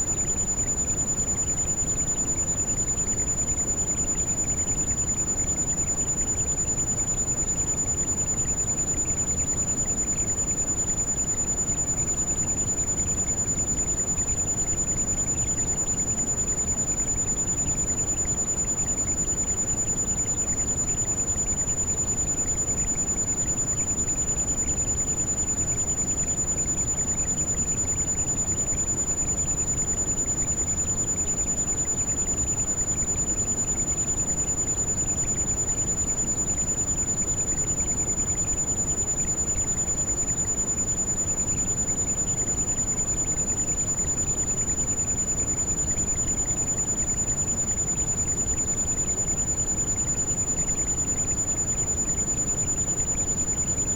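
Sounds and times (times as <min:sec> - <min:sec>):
high-pitched ringing tone: 0:00.0 - 0:53.9.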